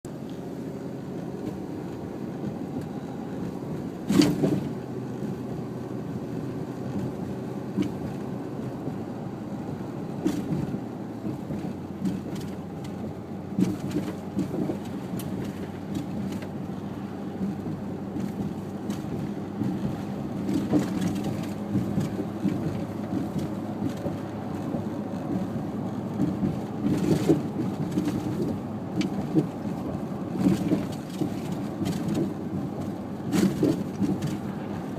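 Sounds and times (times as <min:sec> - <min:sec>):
vehicle road and engine rumble: 0:00.0 - 0:34.9
vehicle knocks and bumps: 0:02.4 - 0:05.5, 0:06.4 - 0:09.1, 0:09.7 - 0:34.9.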